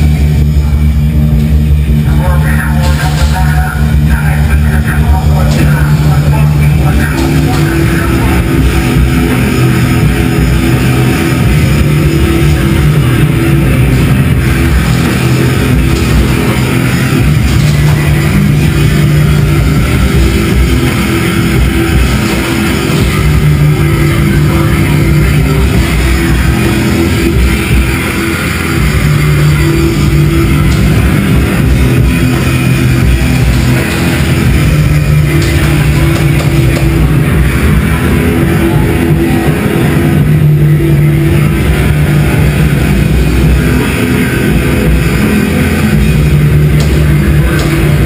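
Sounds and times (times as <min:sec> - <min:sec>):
loud rock music: 0:00.0 - 0:48.0.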